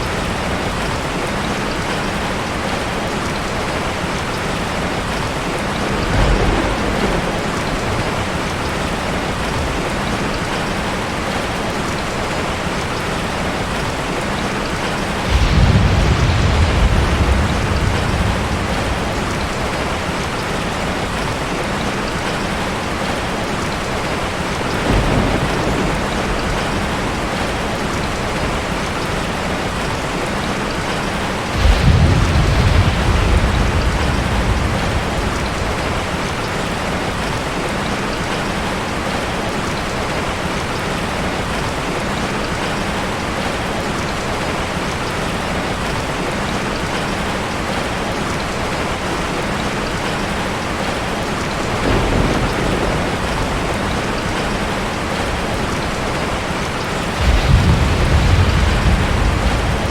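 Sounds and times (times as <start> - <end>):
thunder rumbling: 0.0 - 40.5, 48.7 - 59.9
steady rain falling: 0.0 - 59.9.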